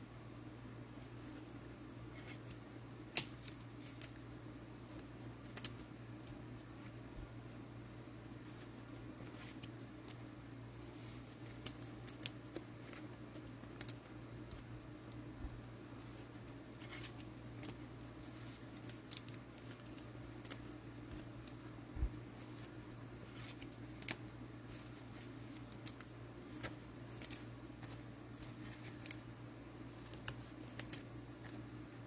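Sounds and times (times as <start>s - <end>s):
steady low hum: 0.0s - 32.0s
trading cards and wrappers rustling: 1.0s - 7.0s, 8.3s - 15.3s, 15.9s - 32.0s.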